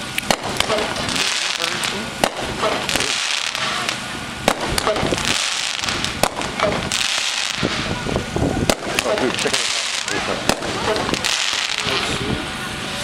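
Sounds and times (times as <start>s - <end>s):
sharp firework cracks: 0.0s - 12.3s
firework fountain hissing: 0.0s - 13.0s.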